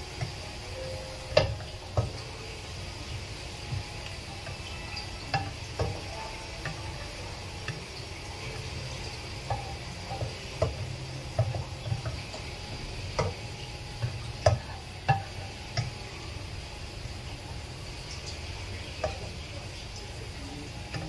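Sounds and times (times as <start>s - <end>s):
garlic sizzling in oil: 0.0s - 21.0s.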